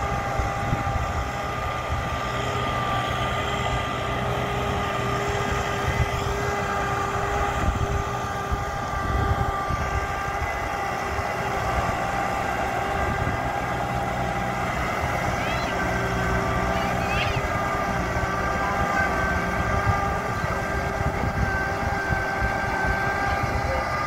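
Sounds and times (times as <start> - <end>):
diesel engine running: 0.0 - 24.0
steady whine: 0.0 - 24.0.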